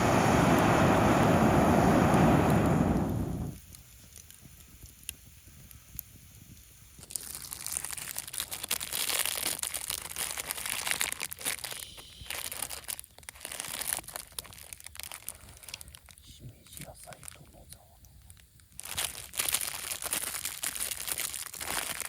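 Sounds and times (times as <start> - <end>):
crinkling and rustling: 3.6 - 22.0.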